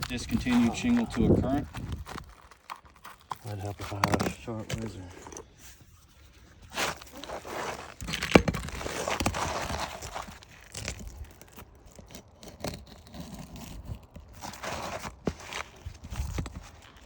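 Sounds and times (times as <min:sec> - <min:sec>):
utility knife scraping shingle: 0:00.0 - 0:17.0.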